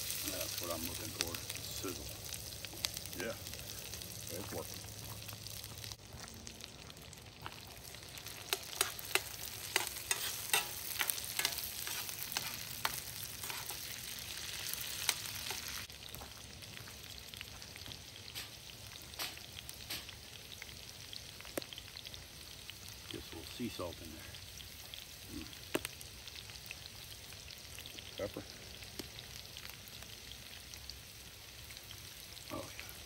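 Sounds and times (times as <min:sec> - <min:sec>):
oil crackling and popping: 0:00.0 - 0:33.0
potatoes frying in oil: 0:00.0 - 0:33.0.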